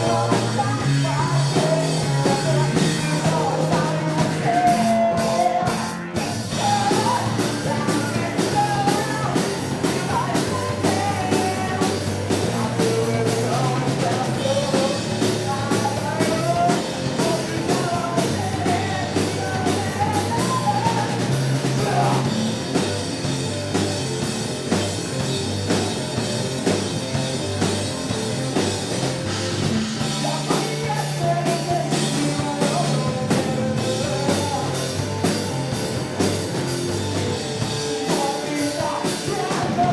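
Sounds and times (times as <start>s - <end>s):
lead singer singing: 0.0s - 23.8s, 28.0s - 39.9s
bass guitar: 0.0s - 39.9s
drum kit: 0.0s - 39.9s
electric guitars: 0.0s - 39.9s.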